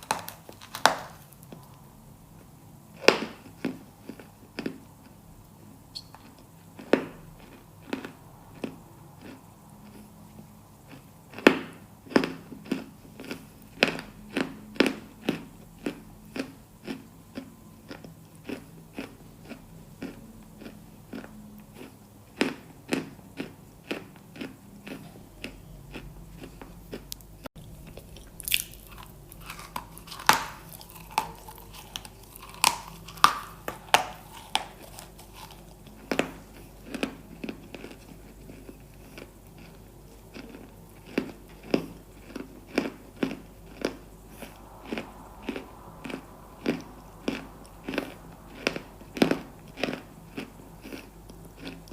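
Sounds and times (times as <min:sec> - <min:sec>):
crunchy chewing: 0:00.0 - 0:01.8, 0:02.4 - 0:51.9.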